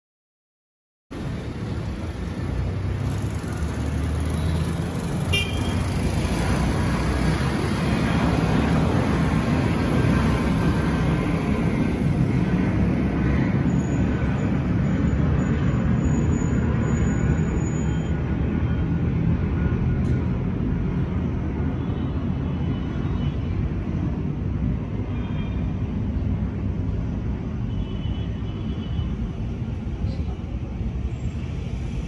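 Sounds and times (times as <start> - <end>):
jet airliner engine rumble: 6.3 - 32.0.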